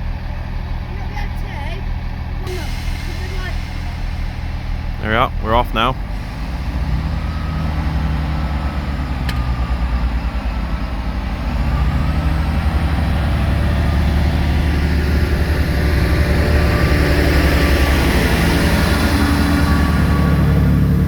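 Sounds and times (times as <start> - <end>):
train diesel engine drone: 0.0 - 21.0.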